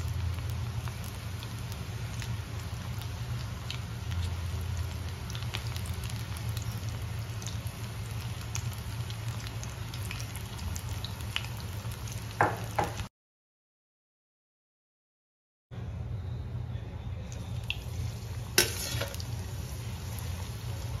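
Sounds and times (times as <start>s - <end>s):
food deep-frying in hot oil: 0.0s - 13.1s, 17.2s - 21.0s.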